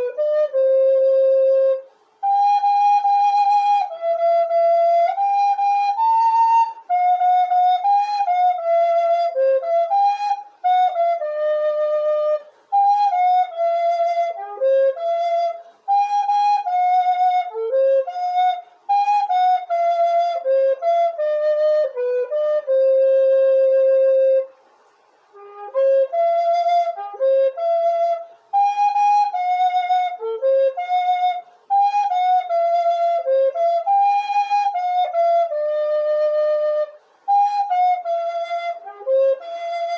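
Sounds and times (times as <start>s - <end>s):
solo flute playing hymn melody: 0.0s - 39.9s.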